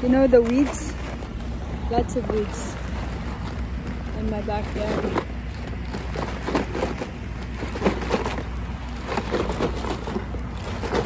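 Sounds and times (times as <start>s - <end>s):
plastic bag rustling: 0.0s - 11.0s
steady low rumble: 0.0s - 11.0s.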